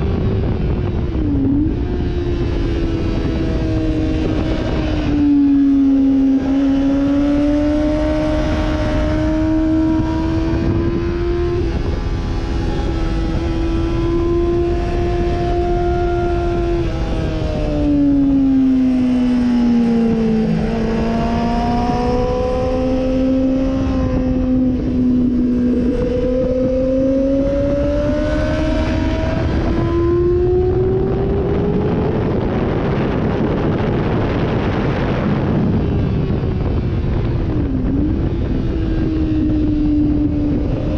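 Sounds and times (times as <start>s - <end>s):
motorcycle engine revving: 0.0s - 40.9s
steady rushing noise: 0.0s - 40.9s.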